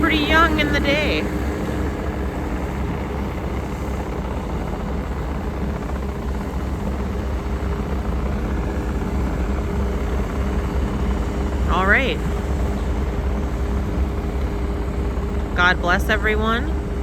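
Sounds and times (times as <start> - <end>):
engine droning: 0.0 - 17.0
faint steady hum: 0.0 - 17.0.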